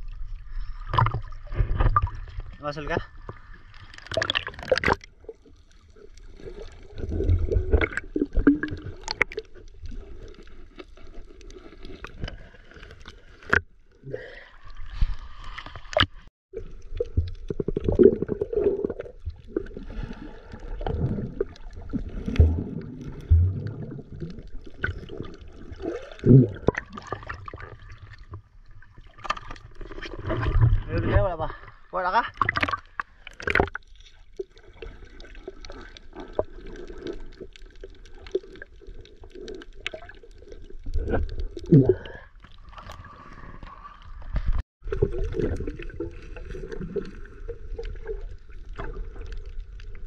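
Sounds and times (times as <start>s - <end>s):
water sloshing and gurgling: 0.0s - 50.0s
water splashes: 0.0s - 50.0s.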